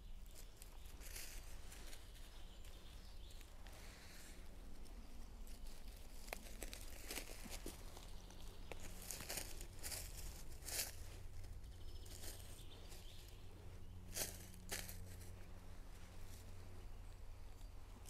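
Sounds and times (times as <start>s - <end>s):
dry leaves rustling and crackling: 0.1s - 18.0s.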